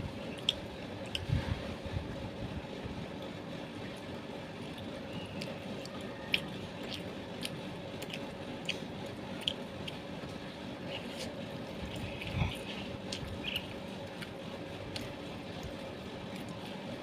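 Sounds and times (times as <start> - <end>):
person chewing food: 0.0 - 1.6, 4.6 - 17.0
steady low hum: 0.0 - 17.0.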